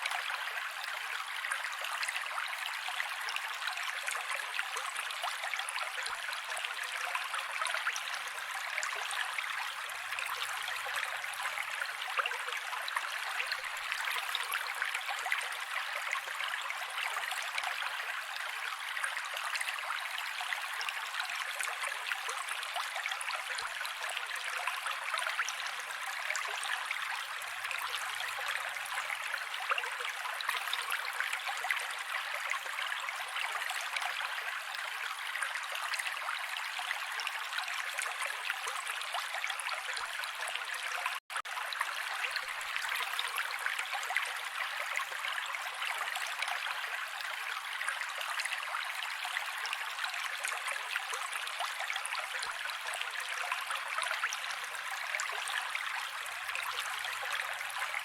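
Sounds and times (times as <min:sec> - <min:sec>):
creek water running over rocks: 0:00.0 - 0:58.0.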